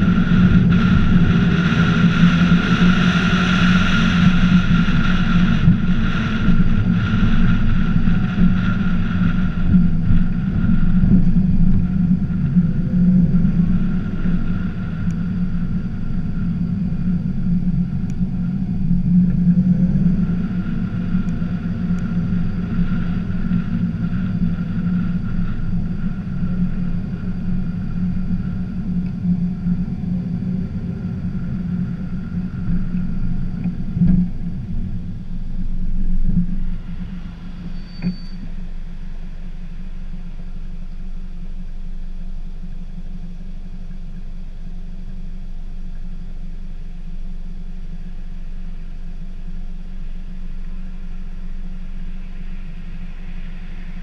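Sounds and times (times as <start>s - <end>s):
car engine and road noise: 0.0s - 54.0s
car engine idling: 0.0s - 54.0s.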